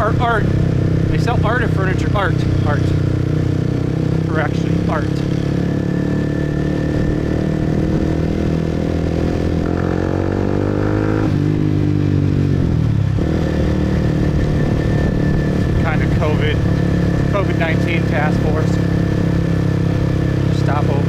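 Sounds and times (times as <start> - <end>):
motorbike engine running: 0.0 - 21.0.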